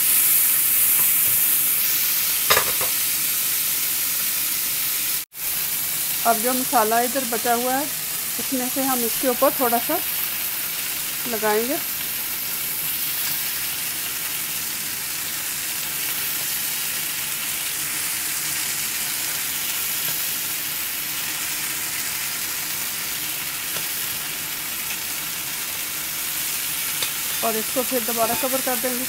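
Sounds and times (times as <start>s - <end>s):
chicken sizzling in grill pan: 0.0s - 29.0s.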